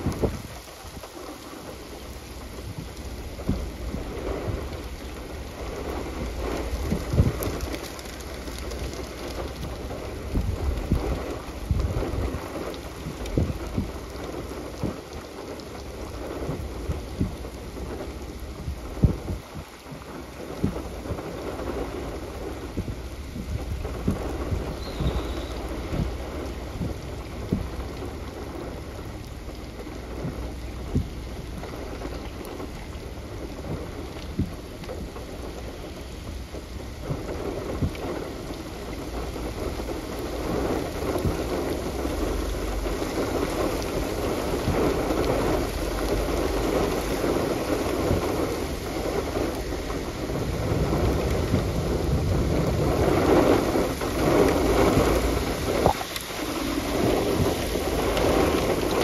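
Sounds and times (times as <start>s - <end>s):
heavy rain: 0.0s - 59.0s
raindrops ticking on a surface: 0.0s - 59.0s
thunder rumbling: 0.0s - 59.0s.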